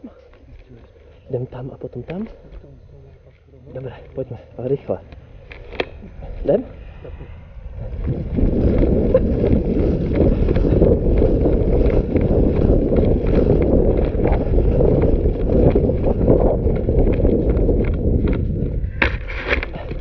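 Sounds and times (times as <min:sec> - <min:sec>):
running footfalls: 0:00.0 - 0:20.0
wind rumble on microphone: 0:00.0 - 0:20.0
gear rattling: 0:03.3 - 0:20.0.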